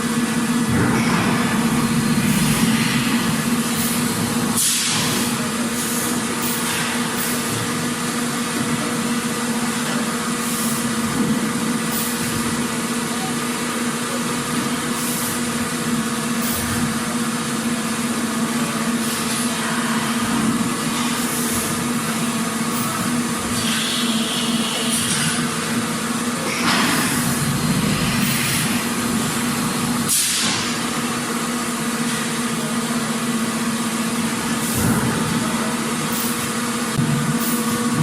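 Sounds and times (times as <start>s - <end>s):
factory machinery din: 0.0s - 38.0s.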